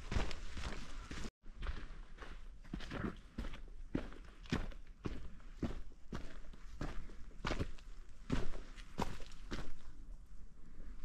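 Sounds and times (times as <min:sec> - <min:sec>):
footsteps on trail: 0:00.0 - 0:10.0.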